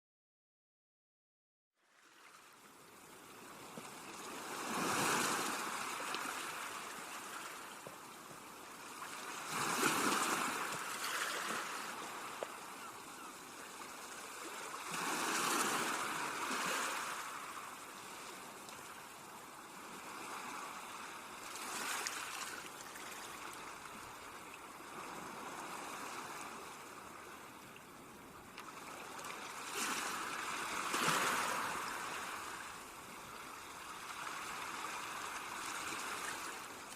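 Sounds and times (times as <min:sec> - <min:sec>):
sea waves breaking on beach: 0:01.9 - 0:27.7, 0:28.6 - 0:36.9.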